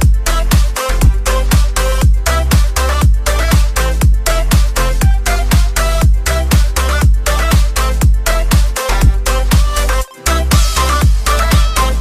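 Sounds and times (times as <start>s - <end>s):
held bass line: 0.0s - 12.0s
steady kick drum: 0.0s - 12.0s.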